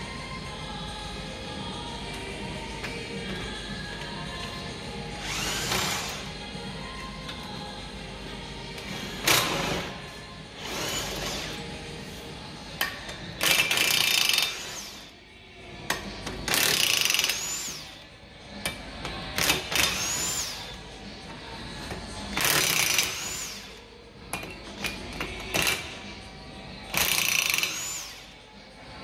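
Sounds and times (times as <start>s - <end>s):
background music: 0.0s - 29.0s.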